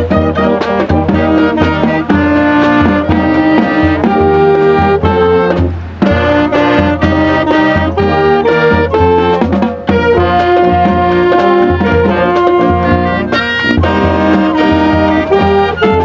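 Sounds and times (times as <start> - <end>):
drums: 0.0 - 16.0
marching band brass: 0.0 - 16.0.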